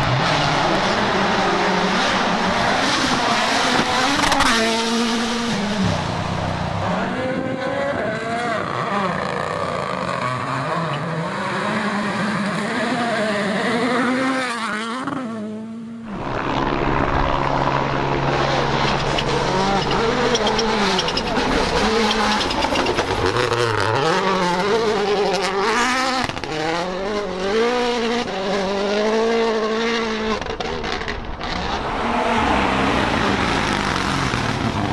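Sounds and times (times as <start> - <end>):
rally car engine revving: 0.0 - 34.9.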